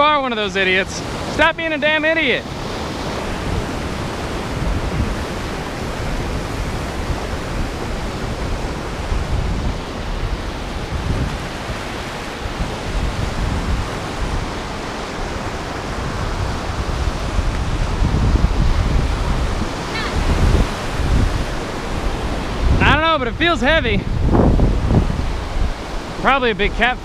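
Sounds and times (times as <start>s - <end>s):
surf breaking on beach: 0.0s - 27.0s
wind rumble on microphone: 2.3s - 27.0s.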